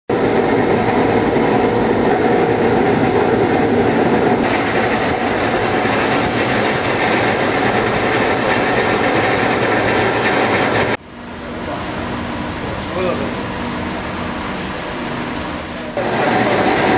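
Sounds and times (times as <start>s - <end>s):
factory machinery running: 0.1s - 16.9s.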